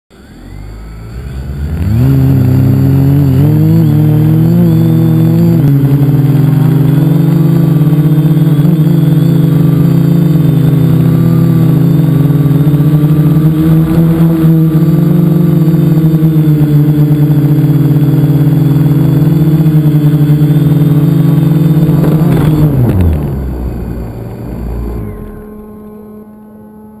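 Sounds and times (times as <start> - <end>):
drone propellers buzzing: 0.1 - 27.0.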